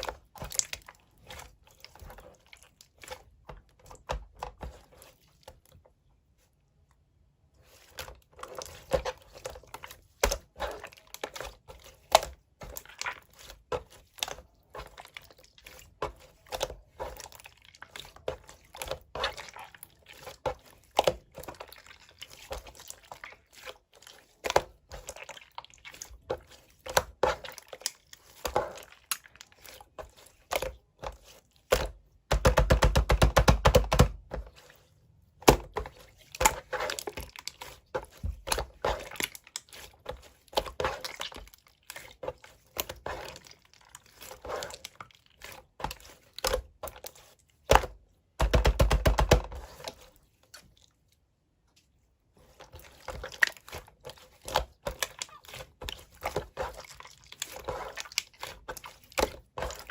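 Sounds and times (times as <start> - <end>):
rapid crackling of slime: 0.0 - 5.9, 7.6 - 51.1, 52.4 - 59.9.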